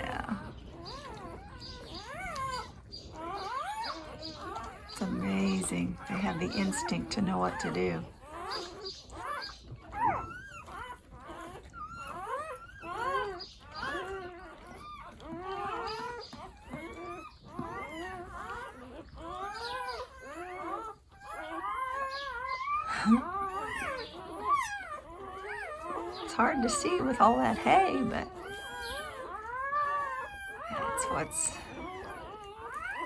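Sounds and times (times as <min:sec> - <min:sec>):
puppies squeaking and whimpering: 0:00.0 - 0:33.0.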